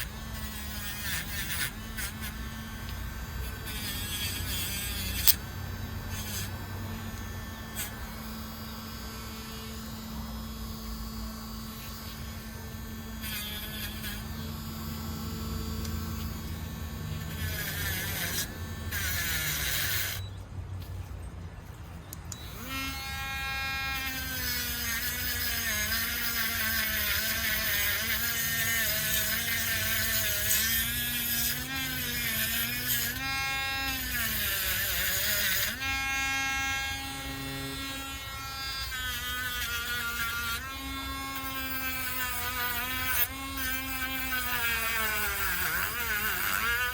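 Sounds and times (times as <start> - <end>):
rotary tool wire brush whine: 0.0 - 20.4, 22.3 - 46.9.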